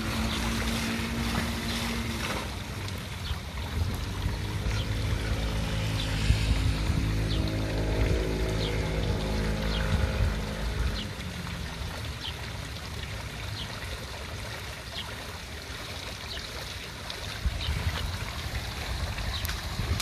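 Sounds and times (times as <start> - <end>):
water trickling in fountain: 0.0 - 20.0.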